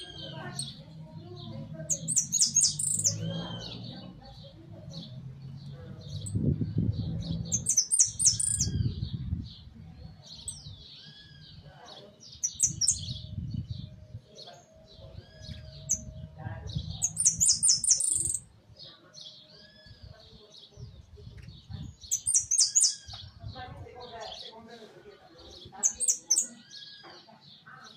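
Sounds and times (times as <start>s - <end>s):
finch singing: 0.0s - 24.8s, 25.4s - 27.9s.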